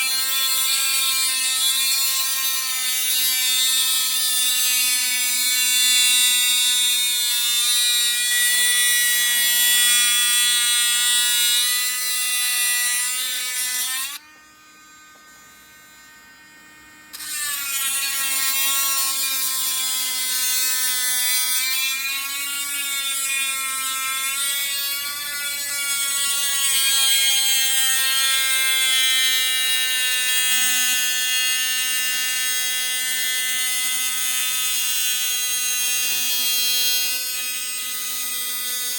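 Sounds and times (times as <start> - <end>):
rotary tool whining drilling shell: 0.0 - 38.9.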